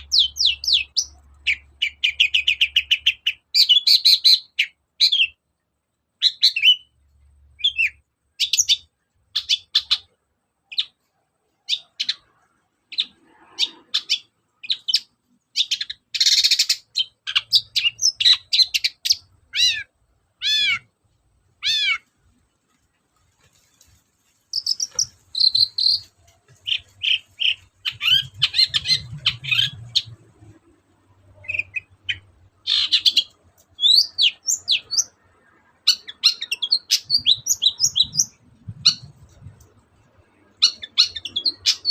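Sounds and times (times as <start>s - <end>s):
bird chirping: 0.0s - 5.5s, 6.1s - 22.8s, 23.4s - 41.9s.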